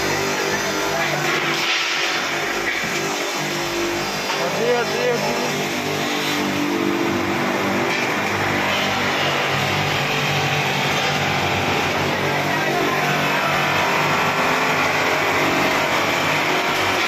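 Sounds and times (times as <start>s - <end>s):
buffing machine grinding whir: 0.0s - 17.0s.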